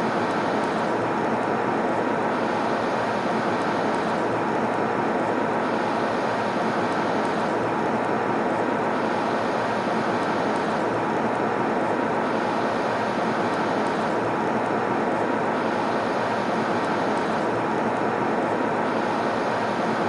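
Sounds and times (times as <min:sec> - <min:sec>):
airplane cabin drone: 0:00.0 - 0:20.0.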